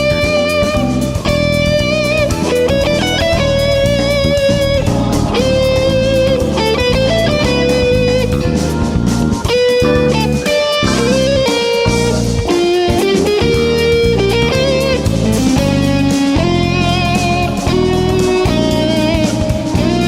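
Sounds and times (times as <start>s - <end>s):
bass and chordal backing: 0.0s - 20.0s
electric guitar lead line: 0.0s - 20.0s.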